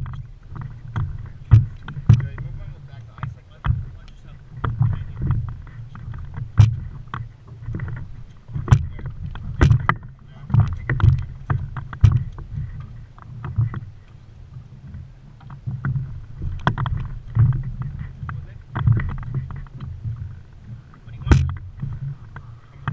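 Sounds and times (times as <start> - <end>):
knocks of gear aboard: 0.0 - 22.9
water slapping boat hull: 0.0 - 22.9.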